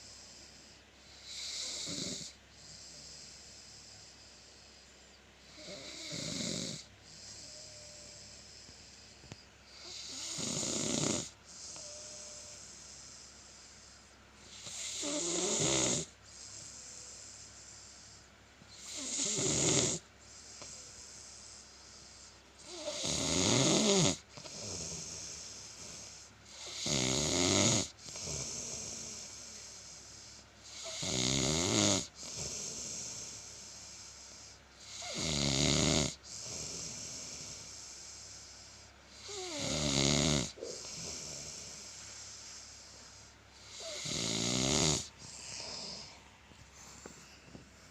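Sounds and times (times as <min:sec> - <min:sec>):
deep rattling snoring: 0:00.0 - 0:04.8, 0:05.5 - 0:08.7, 0:09.8 - 0:18.1, 0:18.8 - 0:47.8
quiet breathing: 0:00.0 - 0:35.2, 0:35.8 - 0:47.9.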